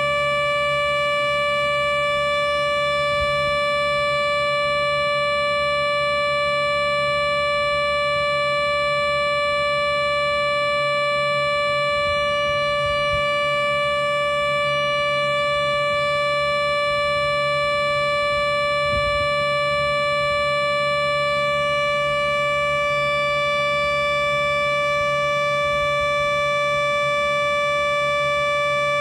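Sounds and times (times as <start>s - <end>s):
low hum: 0.0s - 29.0s
synthesized siren tone: 0.0s - 29.0s.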